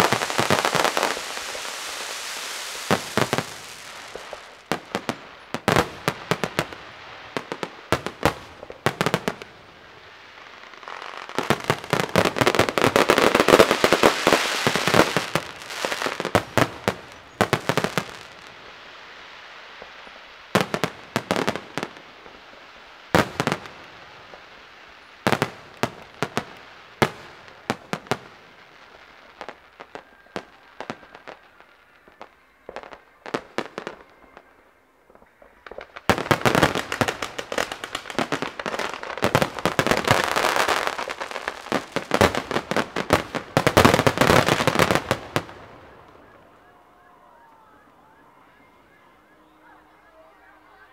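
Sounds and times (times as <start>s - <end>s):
fireworks bangs: 0.0s - 50.9s
fireworks crackling barrage: 0.0s - 50.9s.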